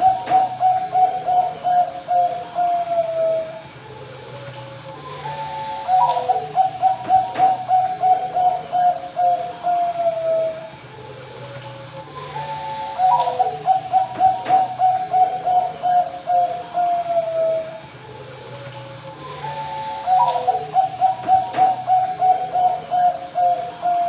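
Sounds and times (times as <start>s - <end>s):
dove cooing: 0.0s - 3.6s, 4.2s - 24.0s
steady low hum: 0.0s - 24.0s.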